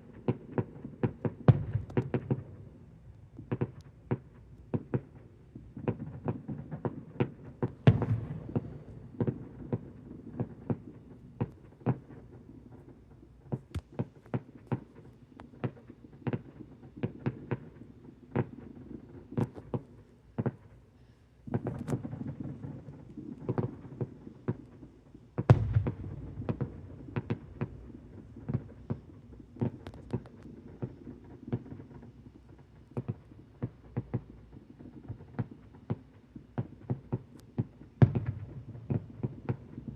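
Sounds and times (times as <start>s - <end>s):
fireworks popping and banging: 0.0s - 20.8s, 21.4s - 39.9s.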